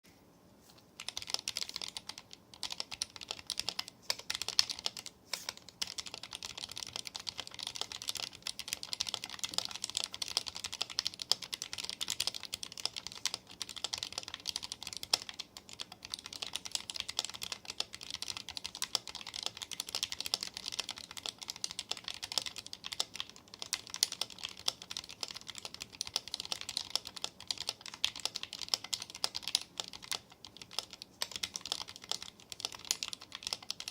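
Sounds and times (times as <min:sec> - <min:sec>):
fast keyboard typing clacks: 0:01.0 - 0:33.9.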